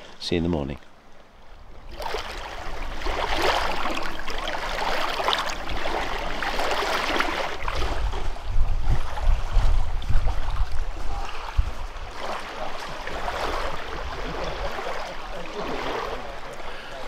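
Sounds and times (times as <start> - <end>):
water lapping on stony shore: 0.0 - 17.0
wind rumbling on microphone: 1.4 - 16.5.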